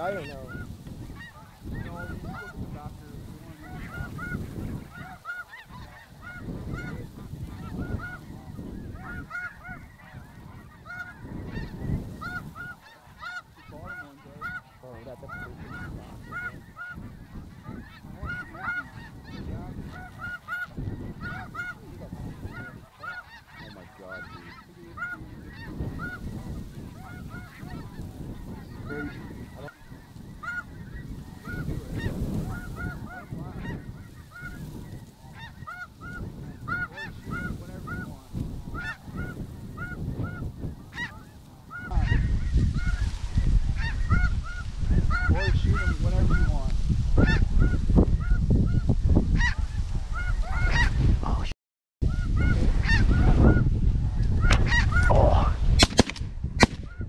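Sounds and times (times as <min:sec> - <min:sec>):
geese honking in a flock: 0:00.0 - 0:51.0, 0:52.0 - 0:55.6
wind rumble on microphone: 0:00.0 - 0:57.0.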